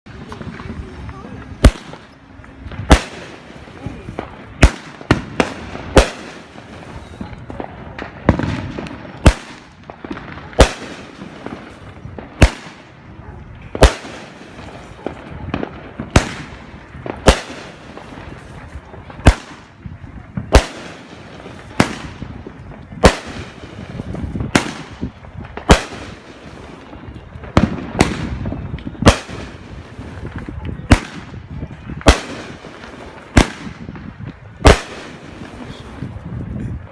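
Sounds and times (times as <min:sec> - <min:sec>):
firework bangs: 0:00.1 - 0:36.8.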